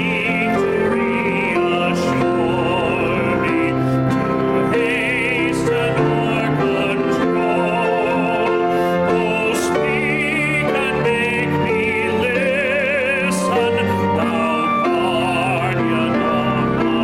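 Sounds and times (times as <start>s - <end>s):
instrumental accompaniment: 0.0s - 17.0s
person singing with vibrato: 0.0s - 17.0s.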